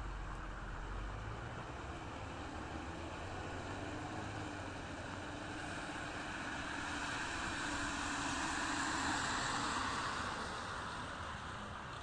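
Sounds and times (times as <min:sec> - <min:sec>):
road and engine noise: 0:00.0 - 0:12.0.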